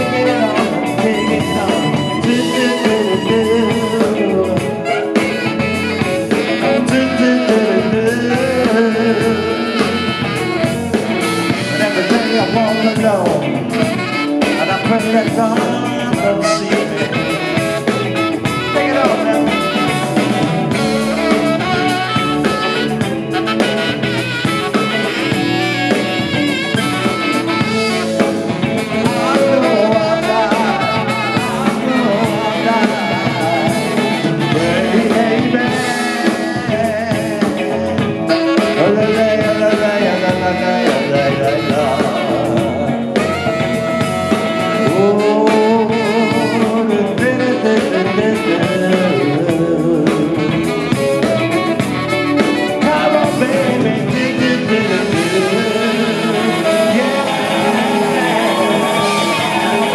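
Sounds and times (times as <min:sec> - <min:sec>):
drum kit: 0:00.0 - 0:59.9
electric bass: 0:00.0 - 0:59.9
electric guitar: 0:00.0 - 0:59.9
tenor saxophone melody: 0:00.0 - 0:59.9.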